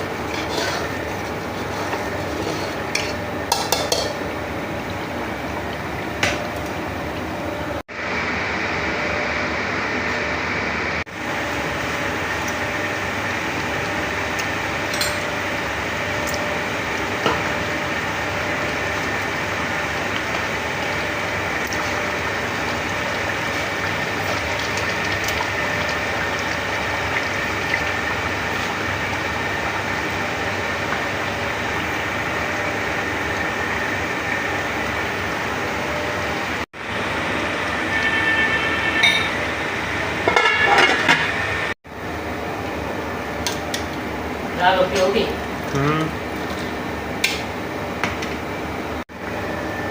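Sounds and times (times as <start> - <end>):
rushing kitchen noise: 0.0 - 49.9.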